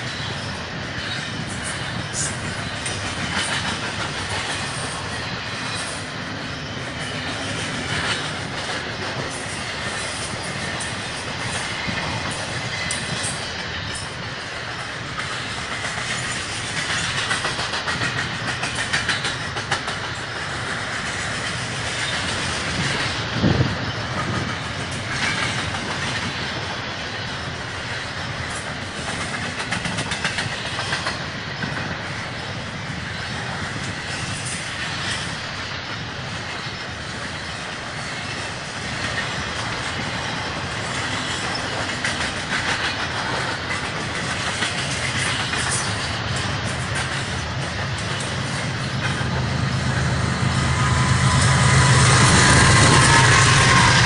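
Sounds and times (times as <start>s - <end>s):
clickety-clack over rail joints: 0.0s - 54.0s
freight train wheels rumbling: 0.0s - 54.0s.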